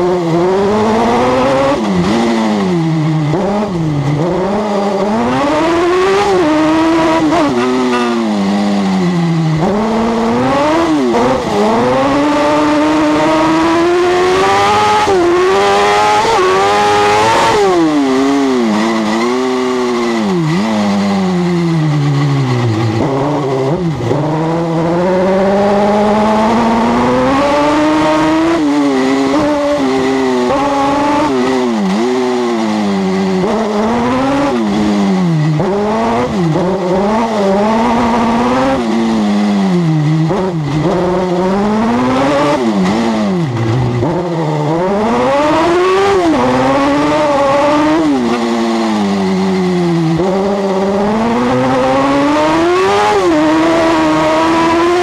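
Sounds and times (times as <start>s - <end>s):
buggy engine racing: 0.0s - 55.0s.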